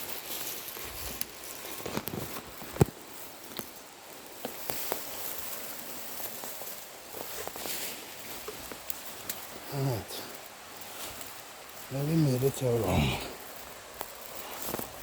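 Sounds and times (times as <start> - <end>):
footsteps on rough ground: 0.0 - 15.0
steady high hiss: 0.0 - 15.0.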